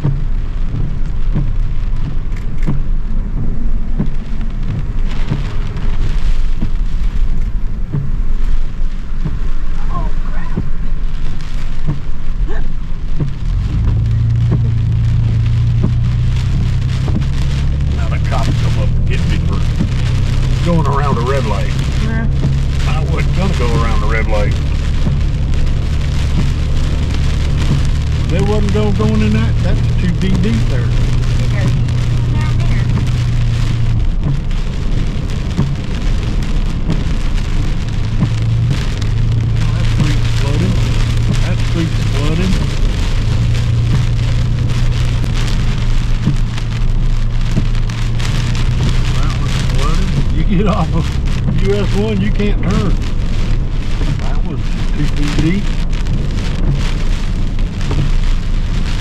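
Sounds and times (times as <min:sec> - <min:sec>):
car low hum: 0:00.0 - 0:59.0
heavy rain on a car: 0:00.0 - 0:59.0.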